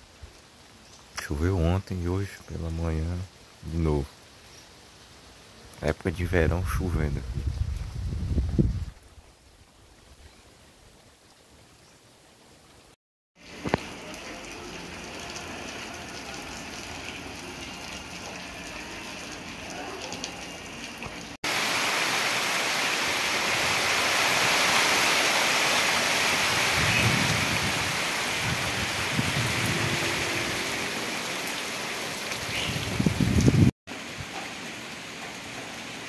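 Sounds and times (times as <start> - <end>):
heavy rain on leaves: 0.0 - 5.9, 7.1 - 36.0
rain pattering on street: 0.0 - 6.4, 13.4 - 36.0.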